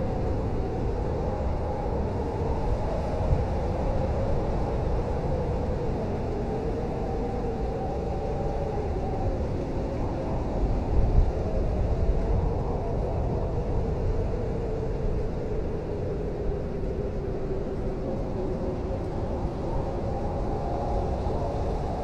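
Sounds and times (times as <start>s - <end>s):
wind howling: 0.0s - 22.0s.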